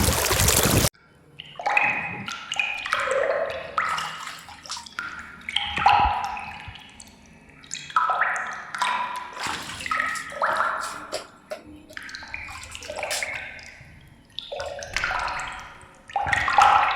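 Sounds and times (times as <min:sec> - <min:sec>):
water pouring and splashing: 0:00.0 - 0:00.9, 0:02.5 - 0:06.9, 0:08.3 - 0:16.9.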